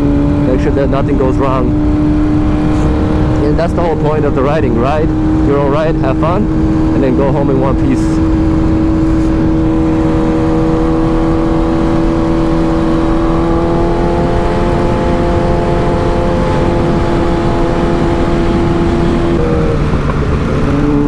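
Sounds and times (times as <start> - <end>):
motorcycle engine droning: 0.0 - 21.0
wind rumble on microphone: 0.0 - 21.0.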